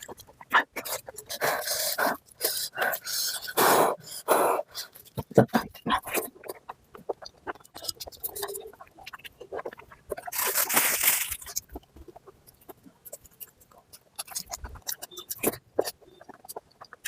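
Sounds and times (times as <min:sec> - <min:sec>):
close chewing with wet crunches: 0:00.0 - 0:17.0.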